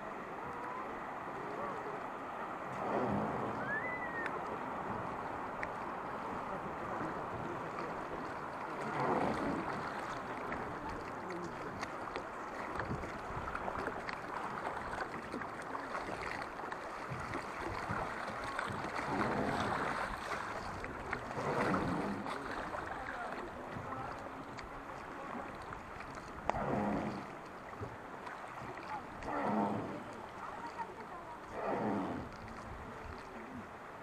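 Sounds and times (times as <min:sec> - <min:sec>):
river water rushing against boat: 0:00.0 - 0:34.0.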